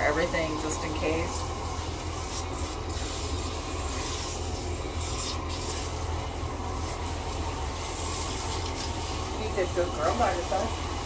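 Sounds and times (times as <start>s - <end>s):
low steady hum: 0.0s - 11.0s
shower water spraying on dog: 0.0s - 11.0s.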